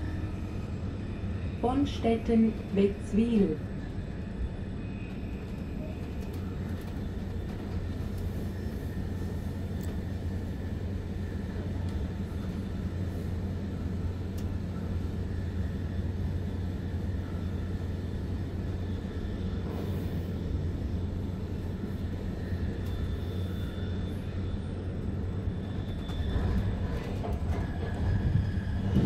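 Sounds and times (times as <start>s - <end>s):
train interior rumble and hum: 0.0s - 29.0s.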